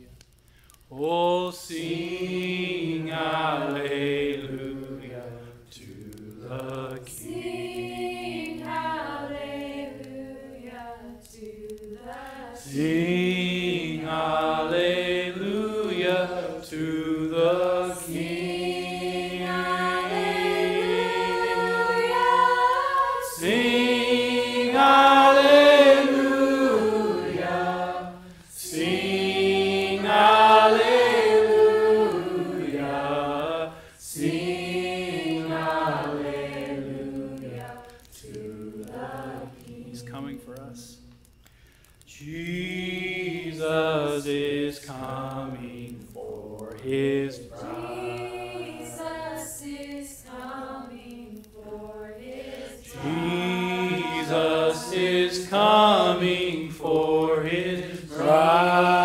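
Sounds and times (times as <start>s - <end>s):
voices singing a gospel hymn: 0.8s - 59.0s.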